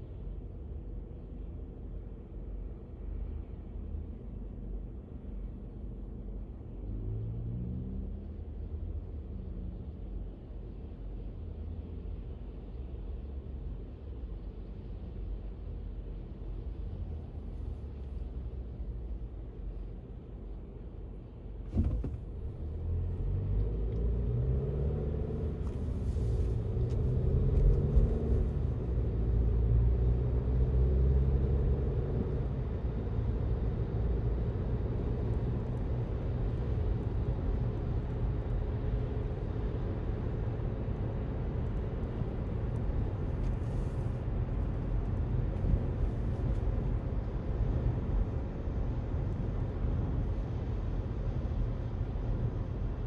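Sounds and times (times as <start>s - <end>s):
low traffic rumble: 0.0s - 53.0s.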